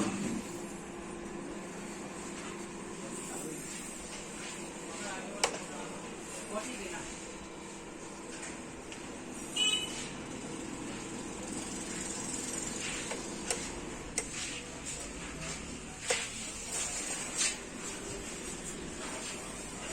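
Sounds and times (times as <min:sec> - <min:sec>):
fan heater whirring: 0:00.0 - 0:19.9.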